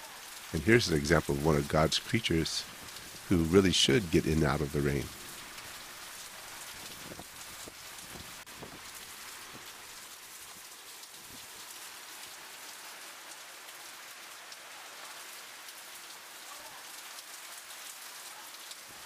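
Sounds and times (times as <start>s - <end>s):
steady rain on driveway: 0.0s - 19.0s.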